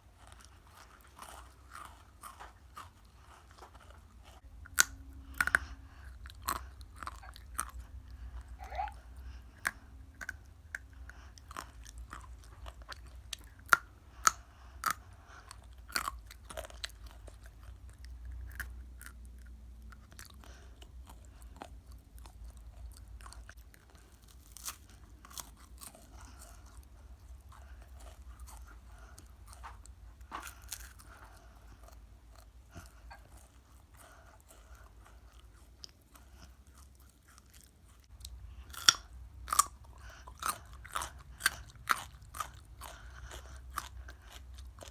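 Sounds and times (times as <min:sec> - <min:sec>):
chewing crunchy food: 0:00.0 - 0:44.9.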